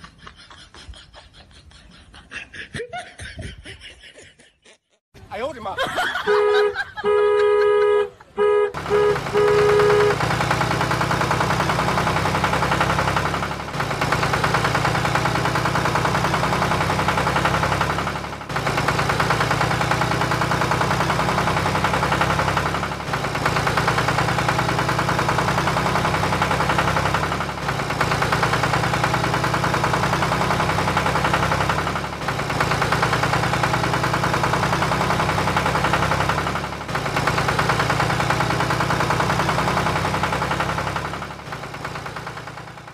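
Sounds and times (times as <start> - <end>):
engine idling with knocking chug: 6.0 - 42.9.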